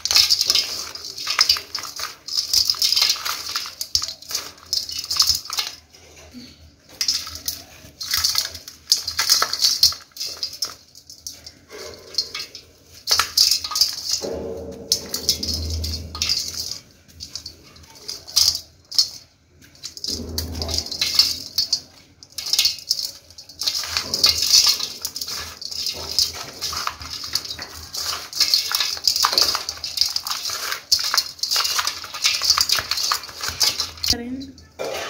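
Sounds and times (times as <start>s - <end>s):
dirt crackling on metal colander: 0.0s - 35.0s.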